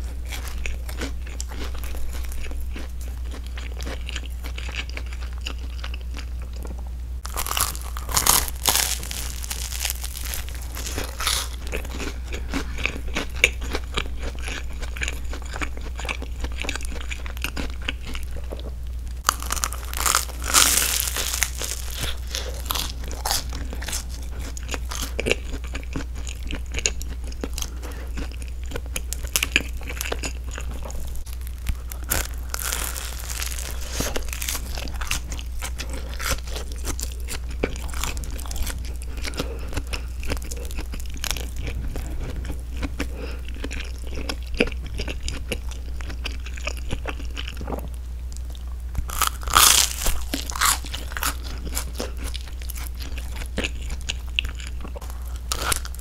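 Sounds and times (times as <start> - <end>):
steady low hum: 0.0 - 56.0
toasted crust crunching: 7.2 - 56.0.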